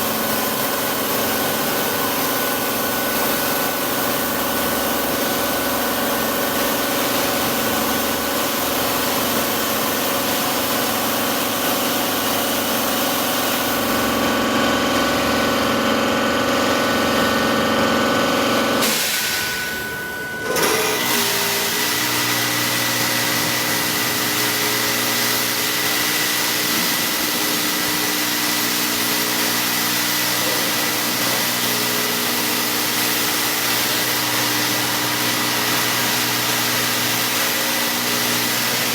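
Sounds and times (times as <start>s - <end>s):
car wash machinery humming: 0.0s - 38.9s.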